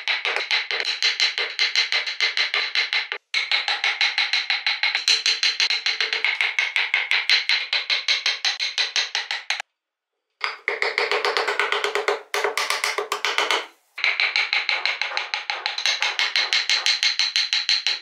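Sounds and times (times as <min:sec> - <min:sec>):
chisel tapping into hardwood: 0:00.1 - 0:09.6, 0:10.4 - 0:18.0.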